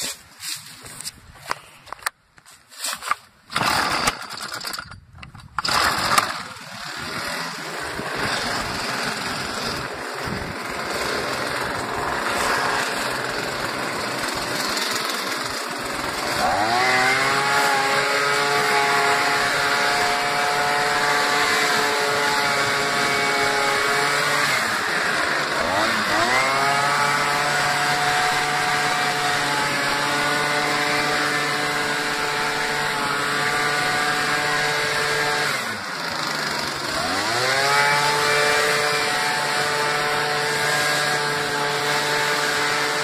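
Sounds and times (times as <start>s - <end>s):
leaf blower engine running: 3.0s - 4.8s, 5.5s - 43.0s.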